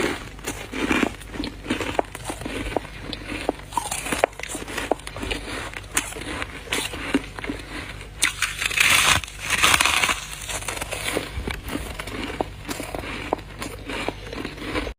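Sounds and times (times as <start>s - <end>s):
frost crunching and crackling: 0.0s - 14.9s
frost grating: 0.0s - 14.9s.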